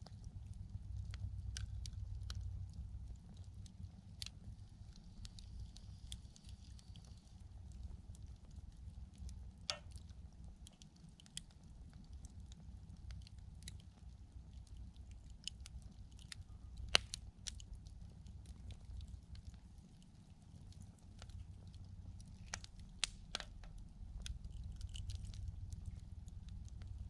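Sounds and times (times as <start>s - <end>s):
campfire crackling and popping: 0.0s - 27.0s
low steady rumble: 0.0s - 27.0s.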